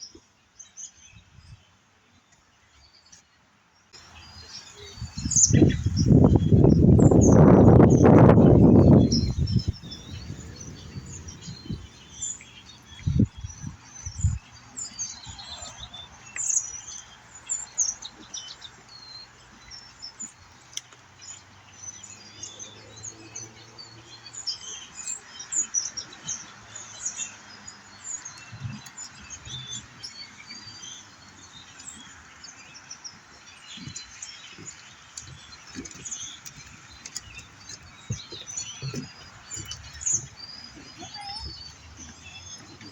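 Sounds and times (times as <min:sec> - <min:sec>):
flock of birds chirping: 0:04.0 - 0:42.9.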